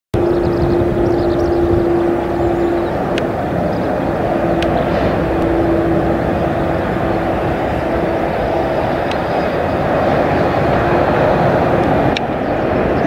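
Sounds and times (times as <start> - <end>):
jet engines droning: 0.1 - 13.0
wind noise on microphone: 0.1 - 13.0.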